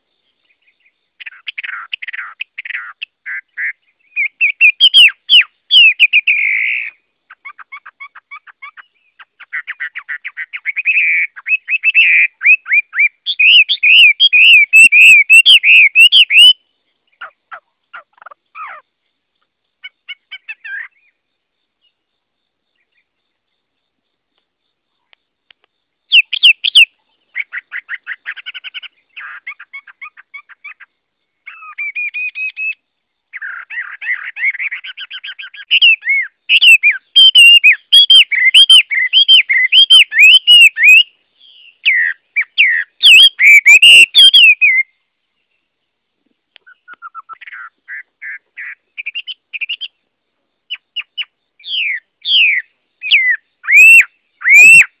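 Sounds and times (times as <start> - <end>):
bird singing trills and whistles: 0.2 - 18.8, 19.8 - 21.2, 26.1 - 45.7, 46.6 - 50.0, 50.7 - 55.0.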